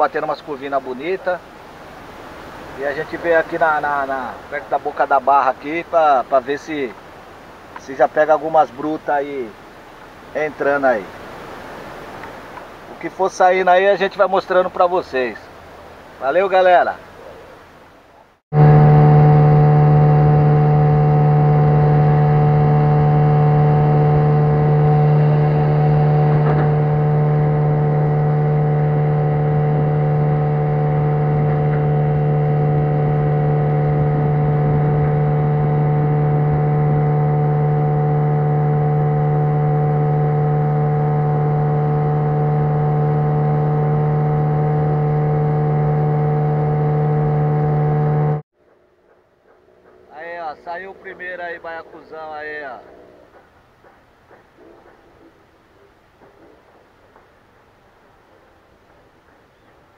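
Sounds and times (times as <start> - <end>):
outboard motor droning: 0.0 - 17.8, 18.5 - 48.4, 49.5 - 59.9.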